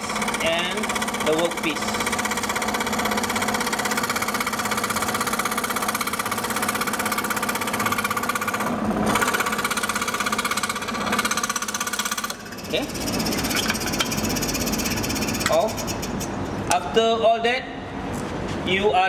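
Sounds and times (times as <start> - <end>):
scroll saw cutting: 0.0 - 16.4.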